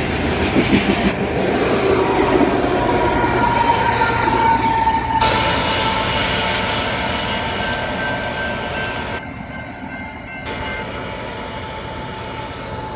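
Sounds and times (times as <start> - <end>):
freight train rumbling on track: 0.0 - 12.9.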